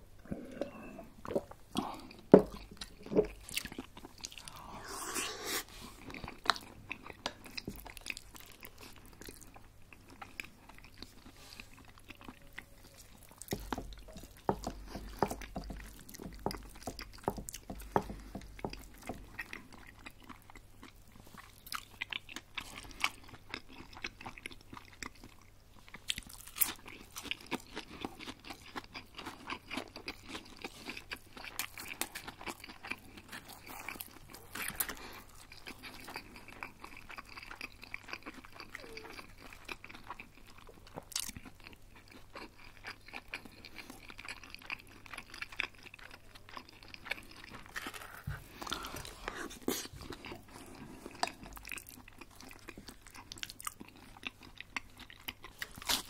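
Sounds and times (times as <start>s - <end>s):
chewing with small crackles: 0.0s - 56.0s.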